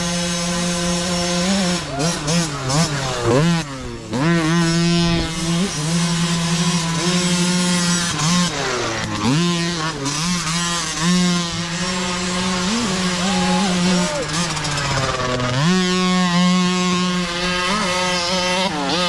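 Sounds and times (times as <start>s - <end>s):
small engines revving high: 0.0s - 19.0s.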